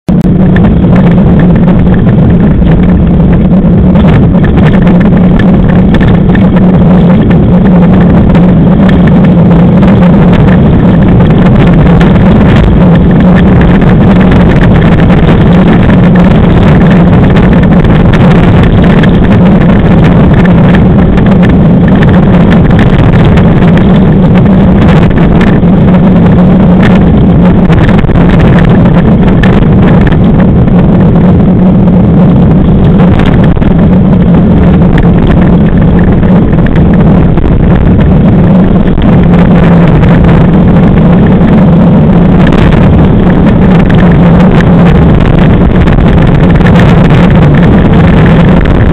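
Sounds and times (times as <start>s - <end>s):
land yacht wheels rumbling: 0.0s - 48.9s
wind buffeting microphone: 0.0s - 48.9s.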